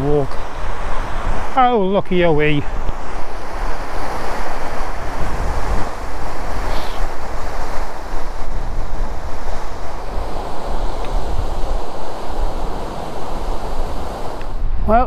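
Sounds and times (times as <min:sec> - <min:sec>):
steady rushing noise: 0:00.0 - 0:15.0
wind buffeting microphone: 0:00.0 - 0:15.0.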